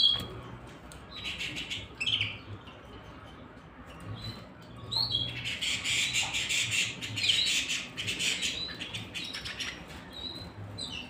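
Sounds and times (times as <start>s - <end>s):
canaries trilling song: 0.0s - 11.0s.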